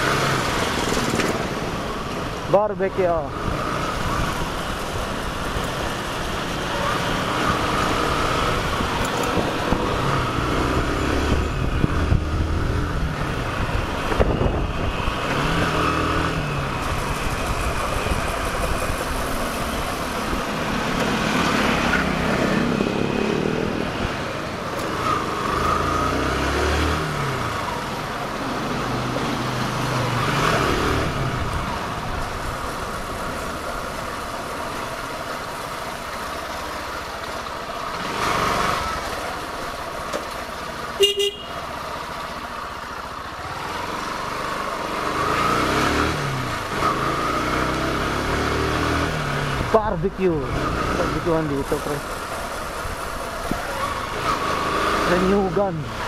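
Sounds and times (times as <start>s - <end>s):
motorcycle engine revving: 0.0s - 32.7s, 37.8s - 39.6s, 43.2s - 56.0s
wind and road noise: 0.0s - 56.0s.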